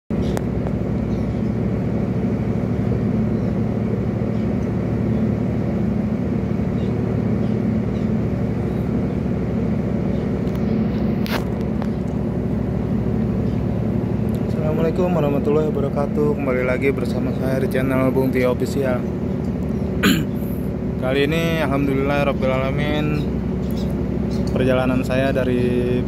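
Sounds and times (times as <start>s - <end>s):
ship engines droning: 0.1s - 26.0s.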